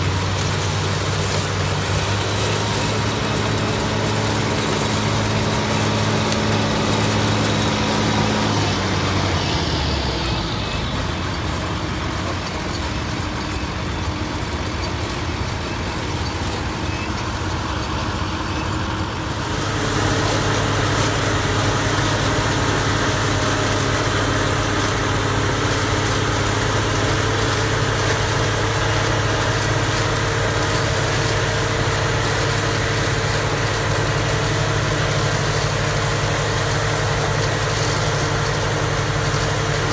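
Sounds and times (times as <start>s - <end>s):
heavy farm machinery engines: 0.0s - 39.9s.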